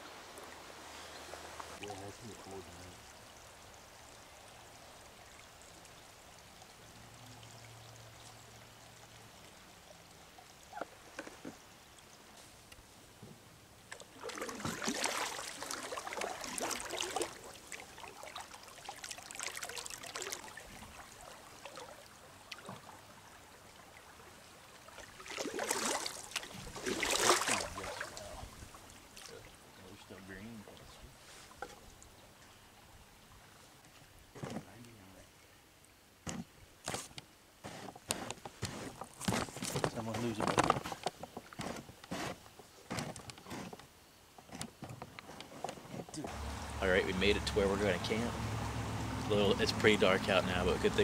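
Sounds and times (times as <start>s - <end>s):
low steady stream: 0.0s - 41.9s, 46.0s - 51.0s
water splashing and trickling: 0.0s - 51.0s.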